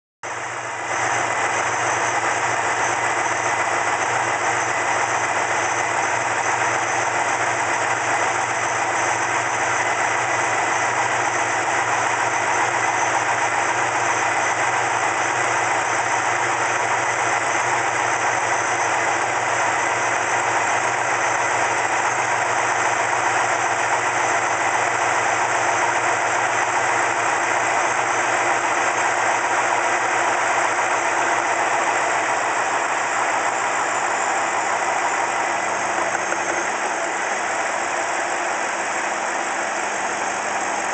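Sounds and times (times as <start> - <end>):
car engine idling: 0.2 - 40.9.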